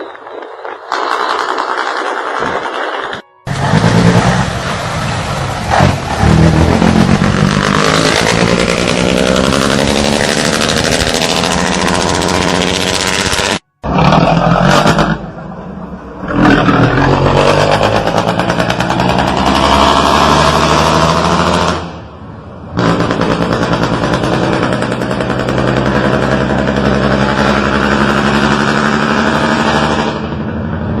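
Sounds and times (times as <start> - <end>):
truck diesel engine revving: 3.5 - 31.0.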